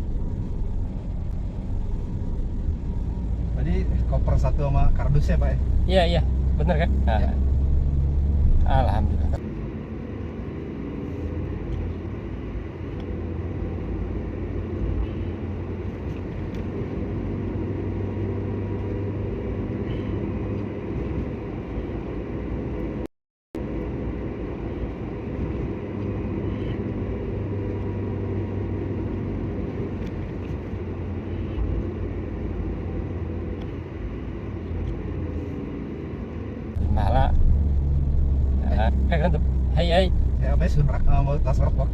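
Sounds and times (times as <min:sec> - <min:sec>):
car road and engine rumble: 0:00.0 - 0:41.9.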